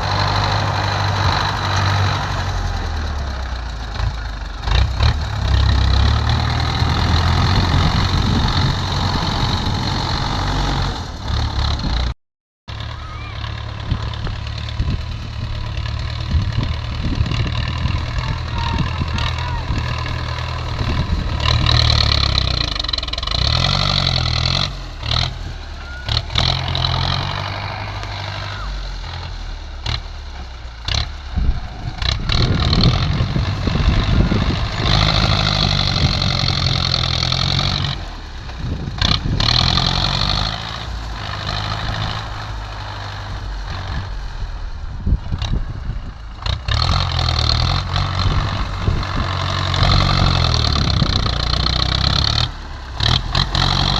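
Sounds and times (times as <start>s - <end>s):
diesel machinery engine revving: 0.0s - 53.9s.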